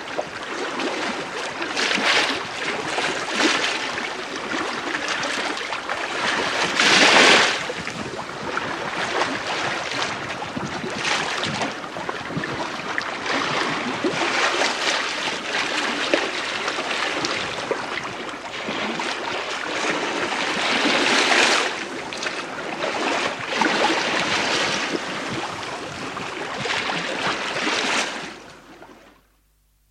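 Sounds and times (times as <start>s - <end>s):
bow wave washing along hull: 0.0s - 29.4s.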